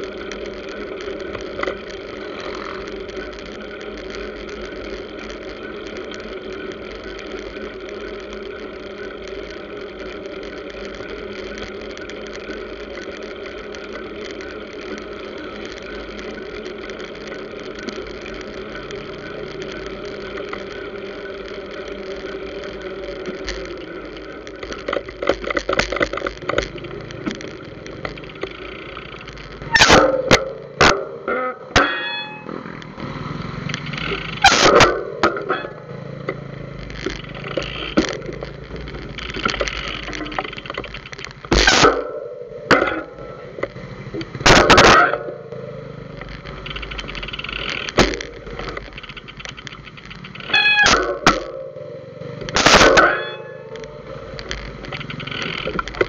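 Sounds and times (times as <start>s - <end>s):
road traffic engine drone: 0.0s - 56.0s.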